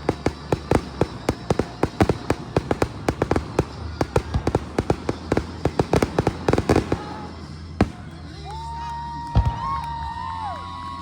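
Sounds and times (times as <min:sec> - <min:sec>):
fireworks bangs and cracks: 0:00.0 - 0:10.4.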